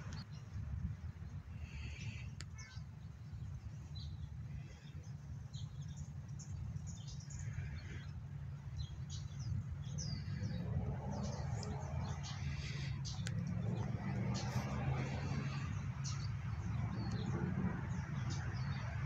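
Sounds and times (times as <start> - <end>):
small birds chirping: 0.0 - 19.0
steady low rumble: 3.0 - 19.0.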